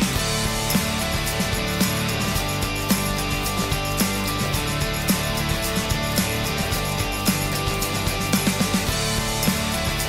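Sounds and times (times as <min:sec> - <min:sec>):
regular drum hits: 0:00.0 - 0:10.0.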